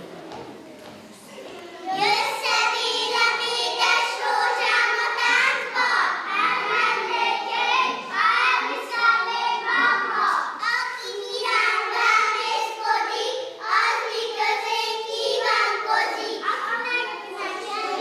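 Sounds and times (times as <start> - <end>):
children singing: 1.6 - 18.0.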